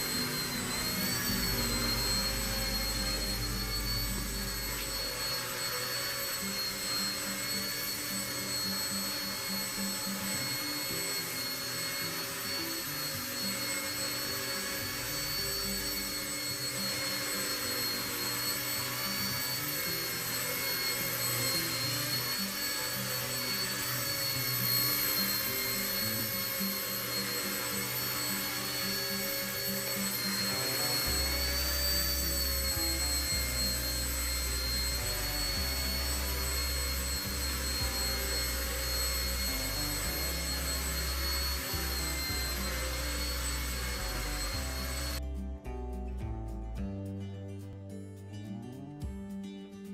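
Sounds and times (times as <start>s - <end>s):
small helicopter rotors whining: 0.0s - 45.2s.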